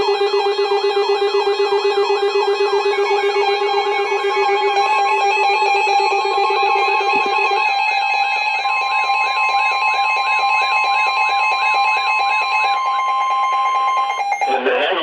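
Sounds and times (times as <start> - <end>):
steady electronic alert tones: 0.0 - 14.9
fast warbling tone: 2.2 - 15.0.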